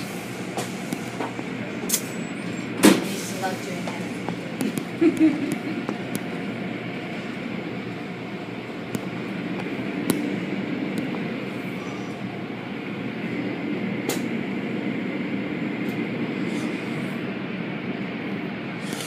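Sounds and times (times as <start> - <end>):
car wash machinery rumble: 0.0 - 19.0.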